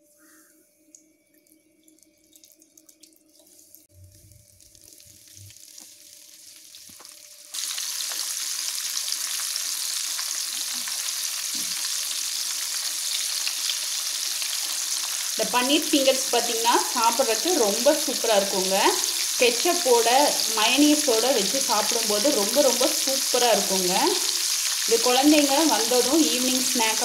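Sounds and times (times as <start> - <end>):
food sizzling in hot oil: 4.4 - 27.0.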